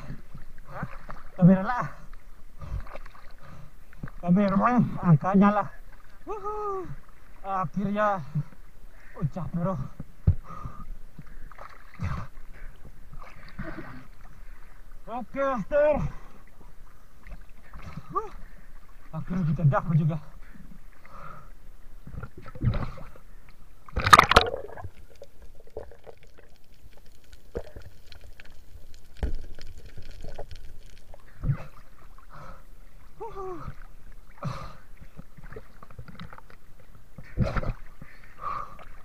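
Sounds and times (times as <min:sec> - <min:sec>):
water splashing and sloshing: 0:00.0 - 0:39.0.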